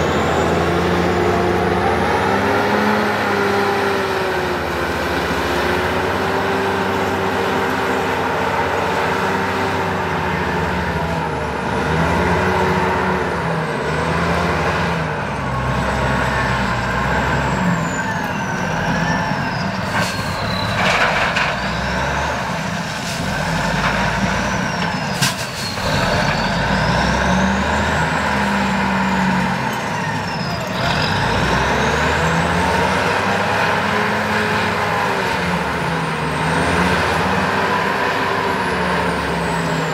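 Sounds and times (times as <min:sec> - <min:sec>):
wheel loader diesel engine revving: 0:00.0 - 0:39.9.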